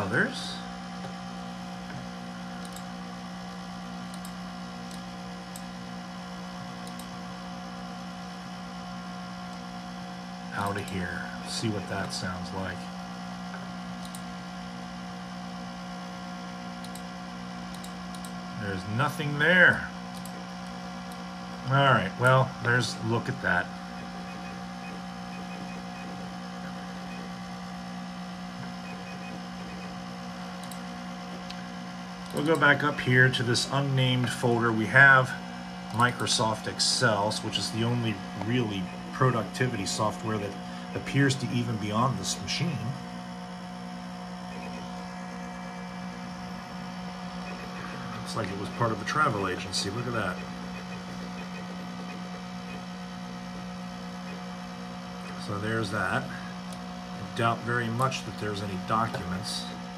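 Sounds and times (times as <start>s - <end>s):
loud computer fan hum: 0.0s - 59.9s.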